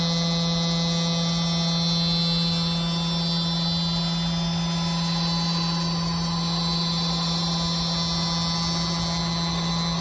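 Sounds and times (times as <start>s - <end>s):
router spindle hum and whine: 0.0s - 10.0s.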